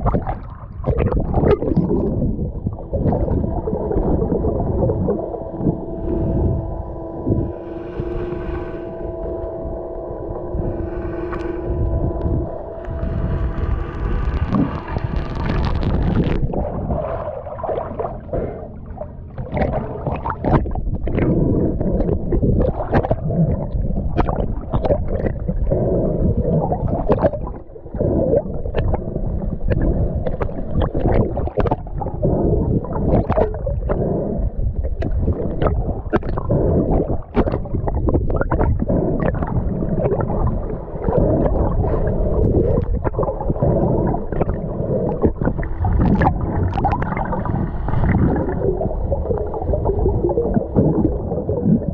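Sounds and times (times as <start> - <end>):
muffled rumble of moving water: 0.0 - 51.9
steady hum with overtones: 0.0 - 51.9.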